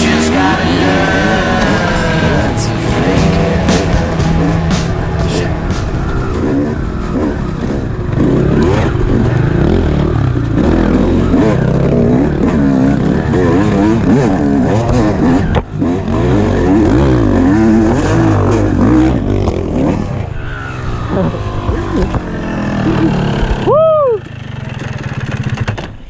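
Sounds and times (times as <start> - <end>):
dirt bike engines revving: 0.0 - 25.7.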